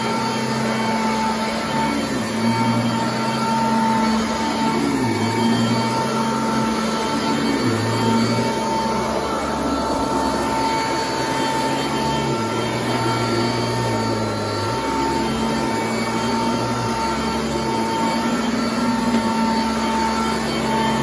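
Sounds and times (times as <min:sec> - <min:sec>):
upright vacuum running: 0:00.0 - 0:21.0
vacuum brush roll on carpet: 0:00.0 - 0:21.0.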